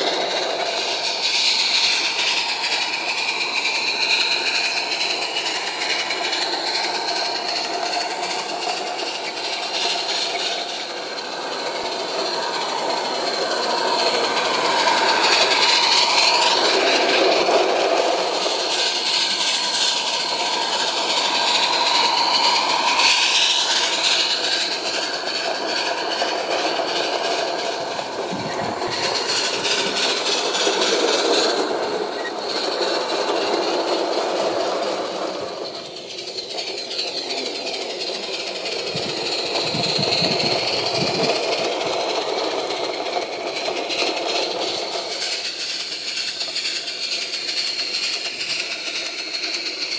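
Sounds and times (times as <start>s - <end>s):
toy train wheels rattling on track: 0.0s - 49.9s.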